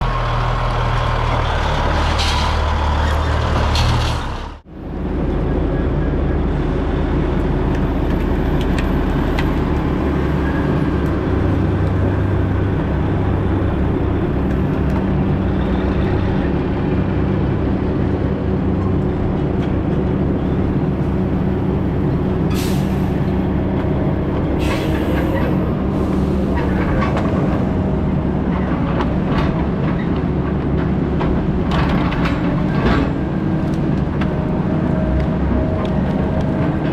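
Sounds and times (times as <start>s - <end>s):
heavy machinery engine under load: 0.0s - 36.9s.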